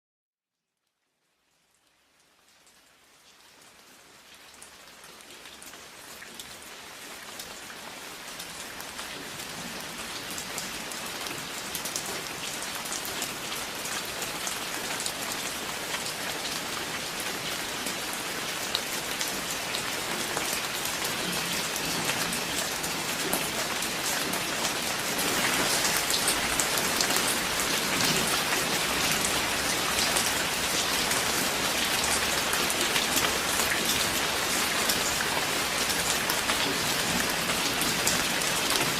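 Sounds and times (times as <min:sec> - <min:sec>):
steady rain falling: 0:00.6 - 0:38.9.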